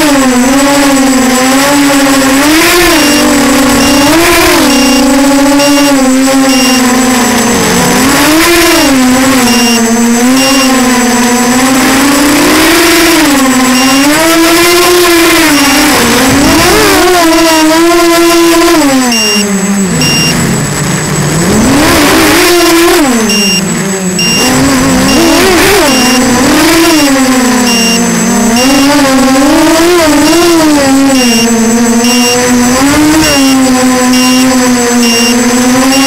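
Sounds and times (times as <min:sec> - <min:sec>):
quadcopter motors whining: 0:00.0 - 0:36.0.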